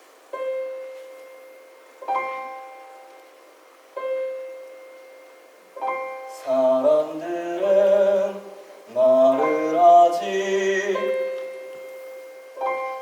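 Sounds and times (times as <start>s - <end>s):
piano chord ringing: 0.3s - 13.0s.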